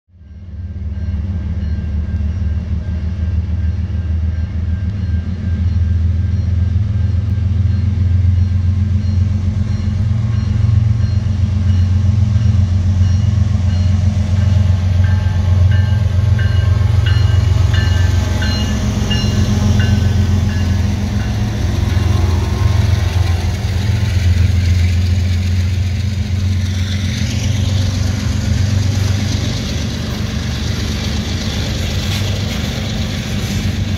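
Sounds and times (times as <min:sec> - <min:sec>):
diesel locomotive engine drone: 0:00.1 - 0:33.9
train bell ringing: 0:00.2 - 0:33.9
boxcars rolling past: 0:00.6 - 0:33.9.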